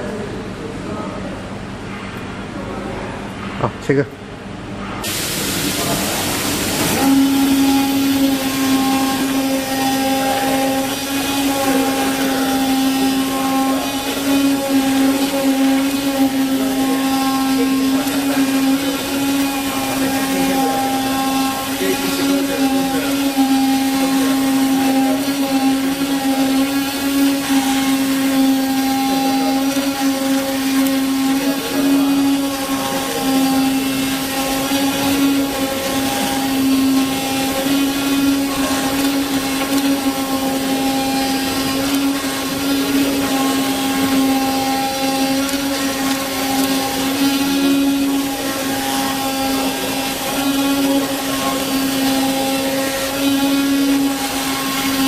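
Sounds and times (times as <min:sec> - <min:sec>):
cutting machine motor hum: 0:05.0 - 0:55.0.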